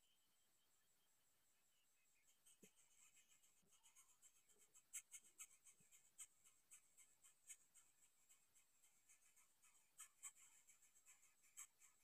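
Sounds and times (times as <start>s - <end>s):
faint high ticks and scratches: 0.0s - 12.0s.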